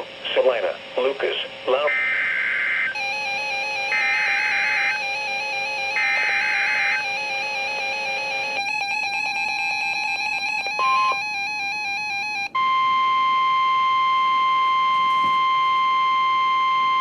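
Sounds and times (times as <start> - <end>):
rapid electronic tones: 0.0 - 17.0
steady high alarm tone: 1.8 - 17.0.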